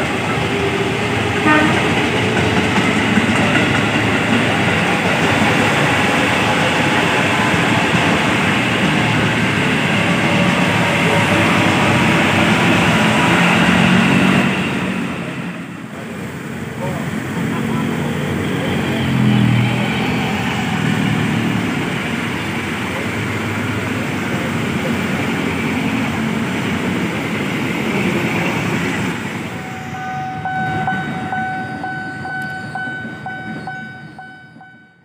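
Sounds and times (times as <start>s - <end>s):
train wheels on rails roar: 0.0s - 34.8s
diesel locomotive engine rumble: 0.0s - 35.0s.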